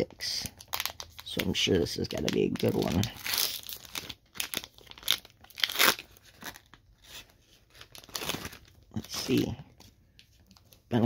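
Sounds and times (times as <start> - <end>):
foil wrapper tearing and crinkling: 0.2 - 9.6.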